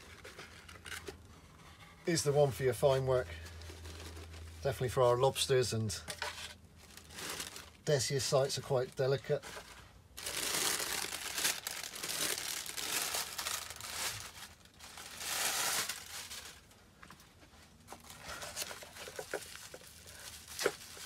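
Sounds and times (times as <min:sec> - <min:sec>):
paper and plastic rustling: 0:00.0 - 0:04.9, 0:06.1 - 0:21.0.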